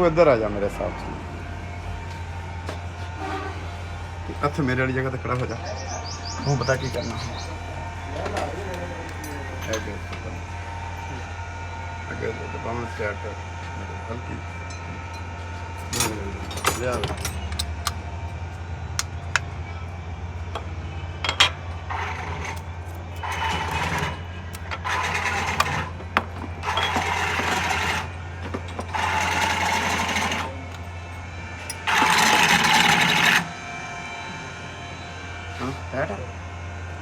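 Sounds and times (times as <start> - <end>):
car engine humming: 0.0 - 32.4.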